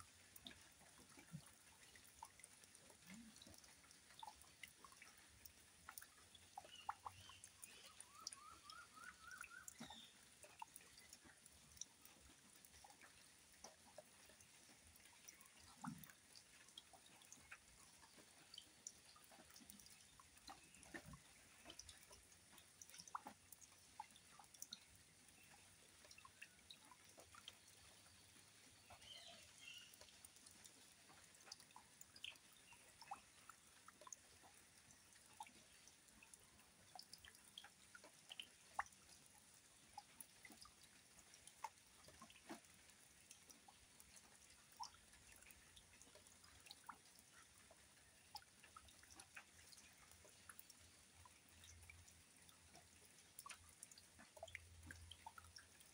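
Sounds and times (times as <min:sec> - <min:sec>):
drip-like splashes: 0:00.0 - 0:55.9
water falling into a pool: 0:00.0 - 0:55.9.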